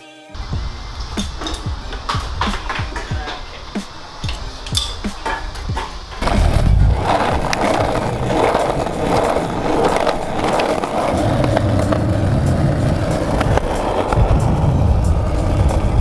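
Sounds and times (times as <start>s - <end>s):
skateboard wheels rolling on pavement: 0.4s - 16.0s.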